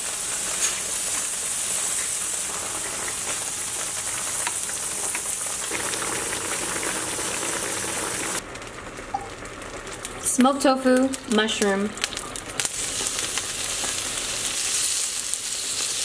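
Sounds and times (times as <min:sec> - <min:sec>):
rolling boil bubbling: 0:00.0 - 0:16.0
water boiling in a pan: 0:00.0 - 0:16.0.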